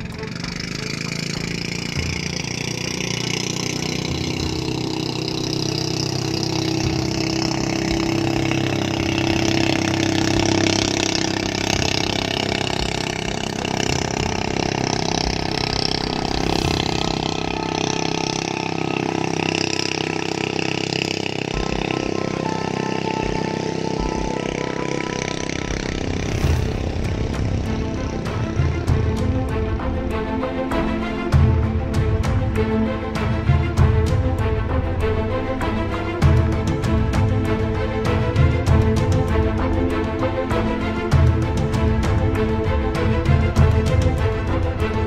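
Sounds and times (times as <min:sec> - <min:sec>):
motorboat engine running: 0:00.0 - 0:45.0.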